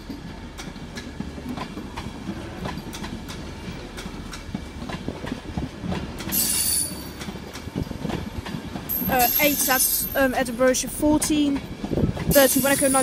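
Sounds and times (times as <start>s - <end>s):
train wheels clicking over rails: 0.0s - 13.0s.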